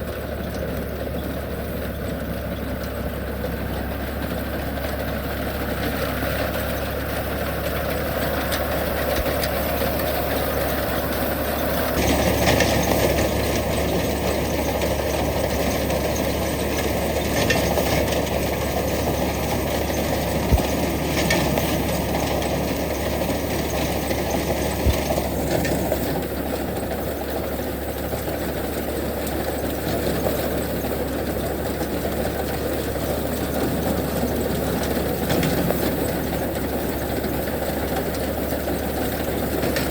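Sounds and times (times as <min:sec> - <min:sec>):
machinery clatter: 0:00.0 - 0:39.9
tractor engine running: 0:00.0 - 0:39.9.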